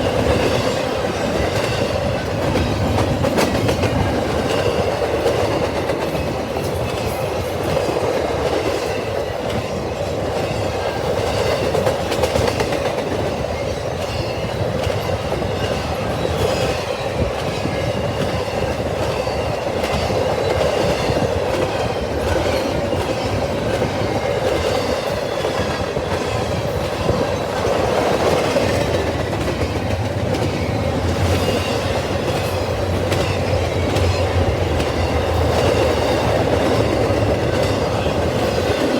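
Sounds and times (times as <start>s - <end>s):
clickety-clack over rail joints: 0.0s - 38.9s
train wheels rumbling on rail: 0.0s - 38.9s.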